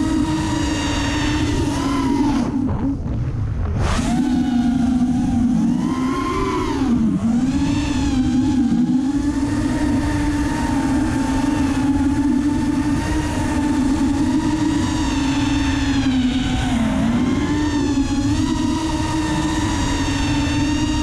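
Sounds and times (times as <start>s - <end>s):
quadcopter motors whining: 0.0s - 21.0s
rough rumble: 0.0s - 21.0s.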